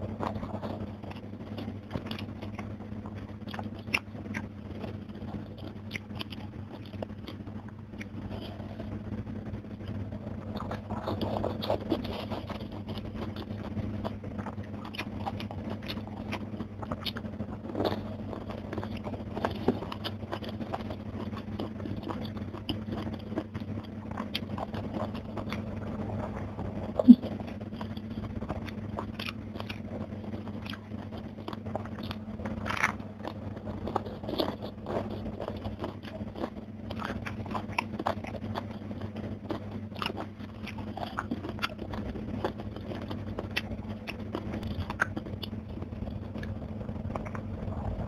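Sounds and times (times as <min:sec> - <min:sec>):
steady low hum: 0:00.0 - 0:48.0
wet chewing and crunching: 0:00.0 - 0:48.0.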